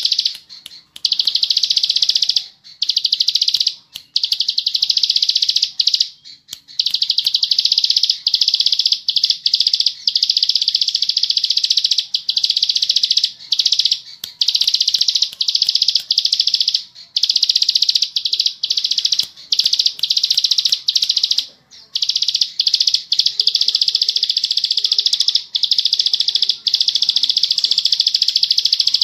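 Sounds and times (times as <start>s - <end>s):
bird singing rapid trills: 0.0s - 29.0s.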